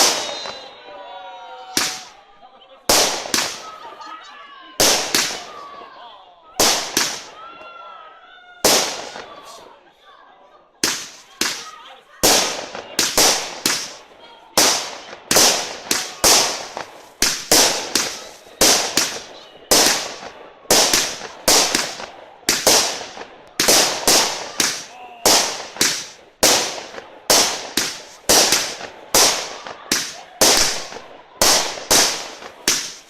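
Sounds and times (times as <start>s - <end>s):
fireworks banging: 0.0s - 4.2s, 4.8s - 6.0s, 6.6s - 7.7s, 8.6s - 9.8s, 10.8s - 33.0s.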